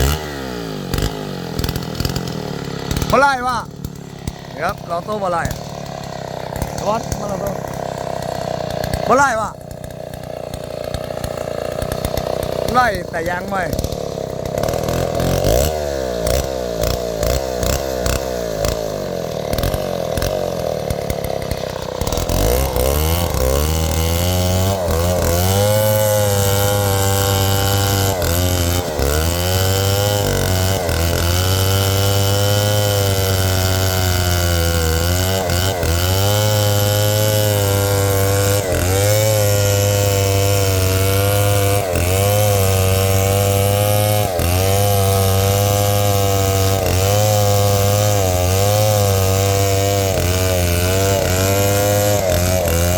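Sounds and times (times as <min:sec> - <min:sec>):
chainsaw idling and revving: 0:00.0 - 0:52.9.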